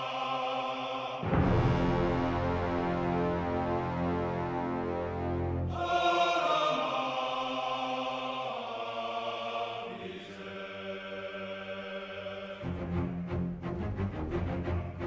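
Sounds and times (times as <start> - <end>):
choir-like chant music: 0.0 - 15.0.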